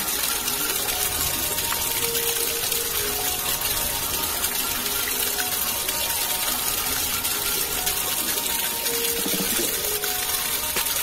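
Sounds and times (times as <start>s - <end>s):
water gushing and splashing: 0.0s - 11.0s.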